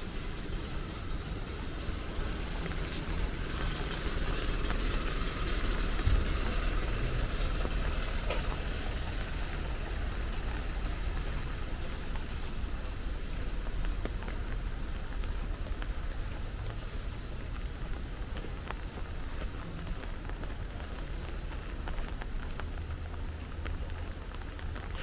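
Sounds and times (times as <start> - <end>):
rain hissing: 0.0 - 25.0
vehicle engine running: 0.0 - 25.0.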